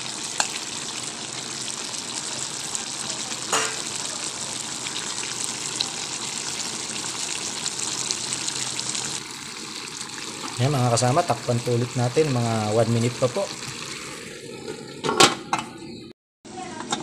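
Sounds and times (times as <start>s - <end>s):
bubbling sizzle in a pan: 0.0s - 16.0s.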